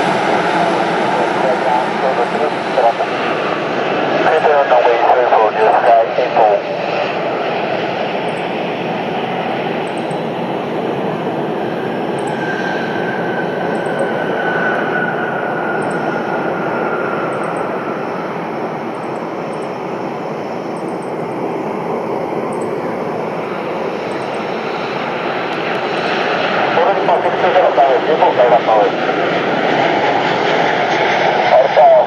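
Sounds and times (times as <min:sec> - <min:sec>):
aircraft engines rushing: 0:00.0 - 0:32.0.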